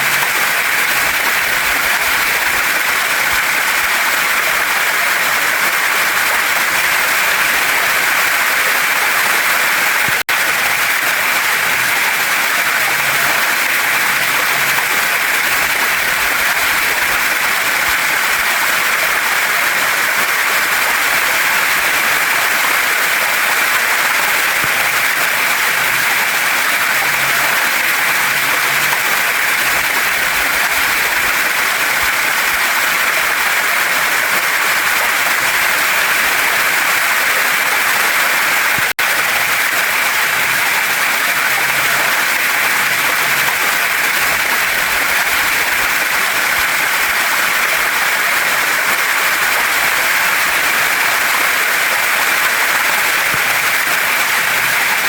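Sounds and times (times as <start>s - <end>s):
waterfall rushing over rocks: 0.0s - 55.0s.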